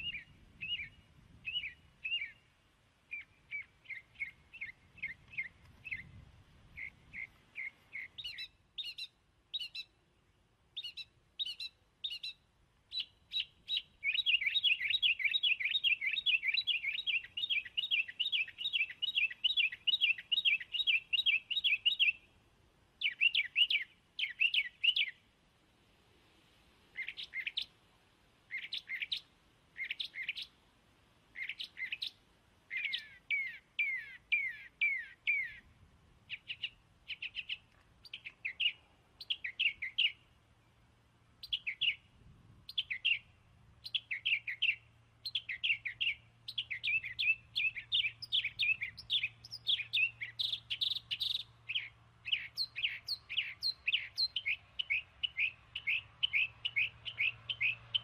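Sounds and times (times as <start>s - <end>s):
bird chirping: 0.0s - 22.4s, 23.0s - 25.3s, 26.9s - 27.8s, 28.5s - 30.6s, 31.3s - 42.1s, 42.7s - 58.0s.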